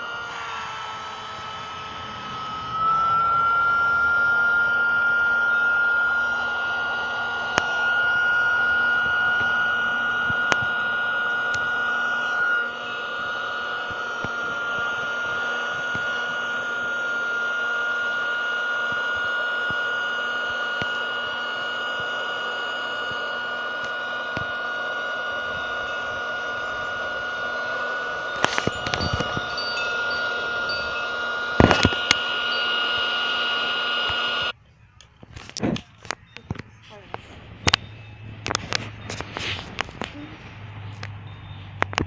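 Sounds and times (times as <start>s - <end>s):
air pump whining: 0.0s - 42.0s.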